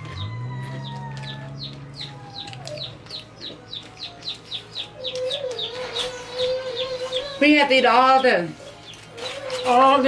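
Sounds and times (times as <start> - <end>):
bird chirping rapidly: 0.1 - 10.0.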